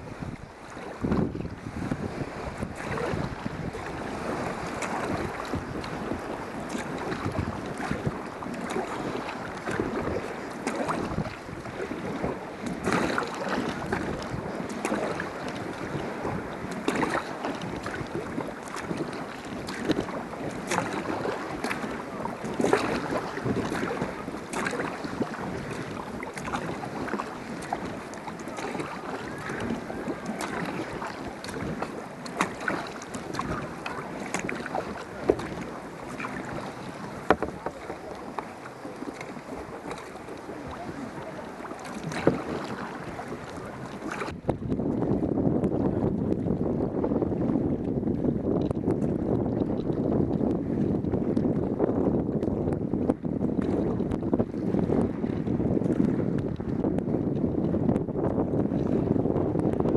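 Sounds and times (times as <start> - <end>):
paddle splashes: 0.0 - 59.9
water sloshing against hull: 0.0 - 59.9
wind buffeting microphone: 0.0 - 59.9.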